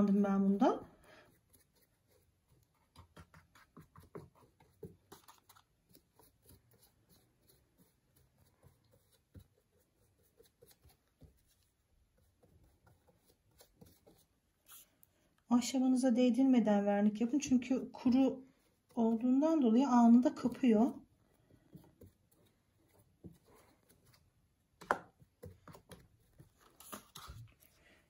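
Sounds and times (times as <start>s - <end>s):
paintbrush strokes: 0.1s - 15.4s, 17.1s - 28.0s.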